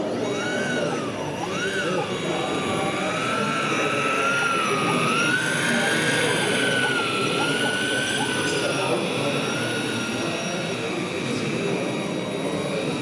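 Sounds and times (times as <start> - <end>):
babble of crowd: 0.0 - 13.0
high-pitched model whine: 0.0 - 13.0.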